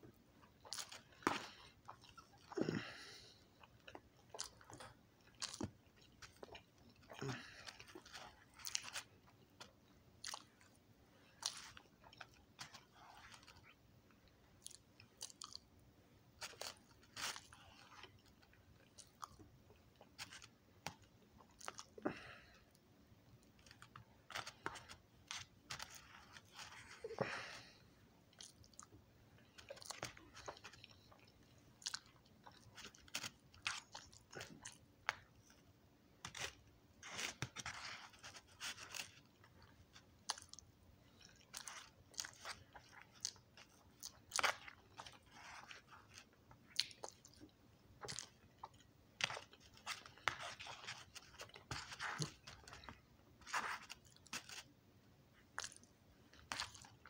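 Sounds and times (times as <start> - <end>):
person chewing food: 0.1 - 54.7, 55.3 - 57.0.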